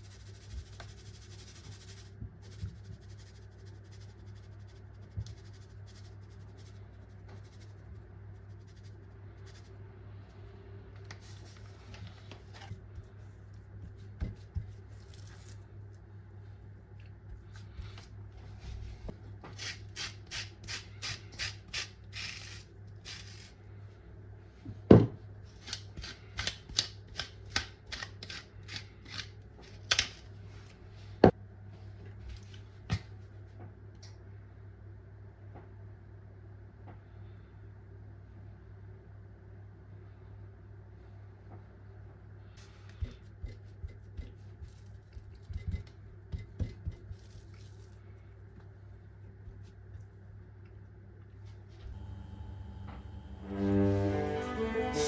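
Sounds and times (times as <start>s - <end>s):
steady low hum: 0.0s - 26.4s, 28.5s - 55.0s.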